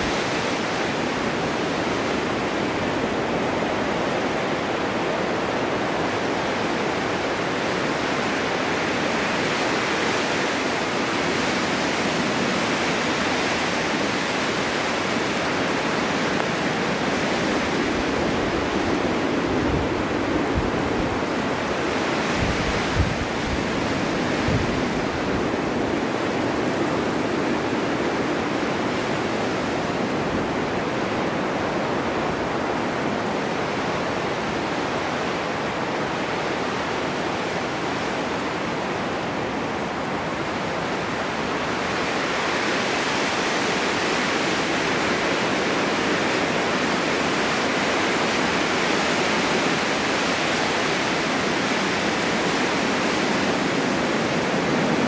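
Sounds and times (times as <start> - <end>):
snowstorm wind blowing: 0.0 - 55.0.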